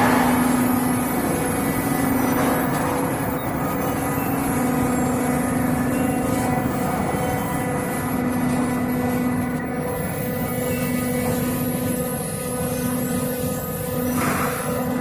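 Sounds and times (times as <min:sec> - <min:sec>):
roll forming machine humming: 0:00.0 - 0:15.0.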